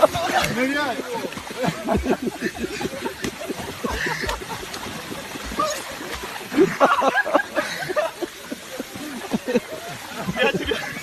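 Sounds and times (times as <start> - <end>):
voices and laughter: 0.0 - 11.0
water splashing: 0.0 - 11.0.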